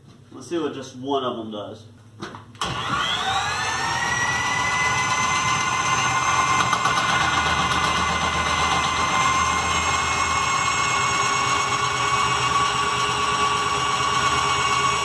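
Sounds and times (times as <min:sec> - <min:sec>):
electric drill whining: 0:02.6 - 0:15.0.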